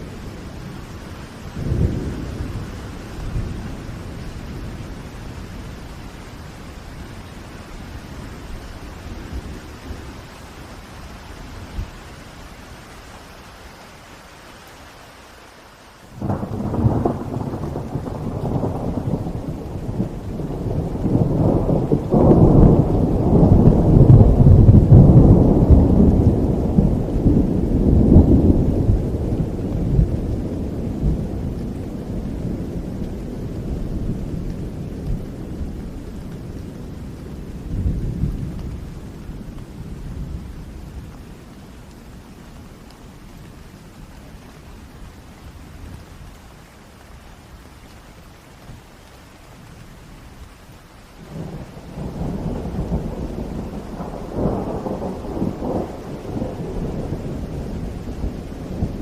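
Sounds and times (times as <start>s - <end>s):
thunder rumbling: 0.0s - 12.9s, 16.1s - 46.4s, 49.7s - 59.0s
steady rain: 0.0s - 59.0s.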